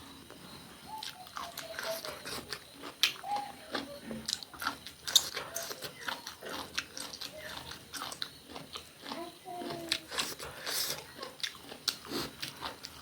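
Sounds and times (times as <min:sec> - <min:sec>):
person chewing food: 0:00.9 - 0:13.0.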